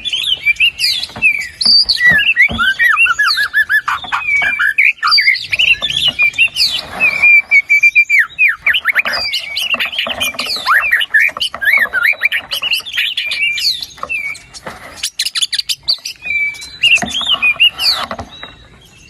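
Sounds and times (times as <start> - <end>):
songbird whistles and trills: 0.0 - 19.0.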